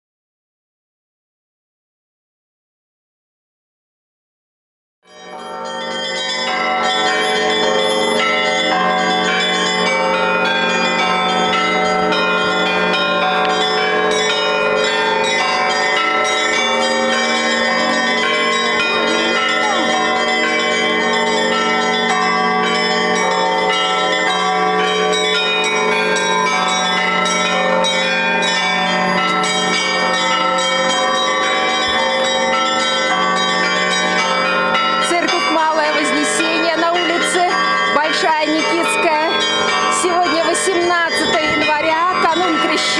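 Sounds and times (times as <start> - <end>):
church bells pealing: 5.1 - 42.9.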